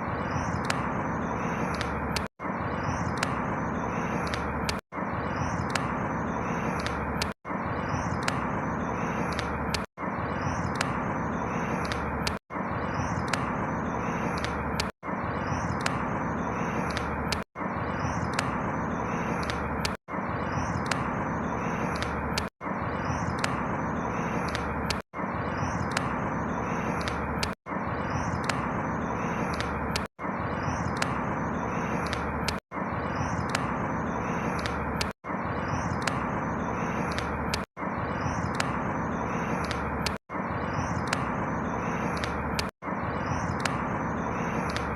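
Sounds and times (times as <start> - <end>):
faint high chirps: 0.0 - 44.9
rushing outdoor ambience: 0.0 - 44.9.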